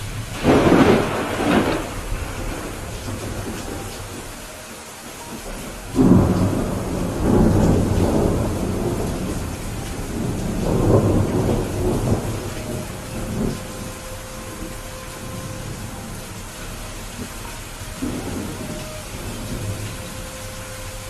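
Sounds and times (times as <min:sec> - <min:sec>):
thunder clap and rumble: 0:00.0 - 0:04.5, 0:05.1 - 0:21.0
steady rain: 0:00.0 - 0:21.0.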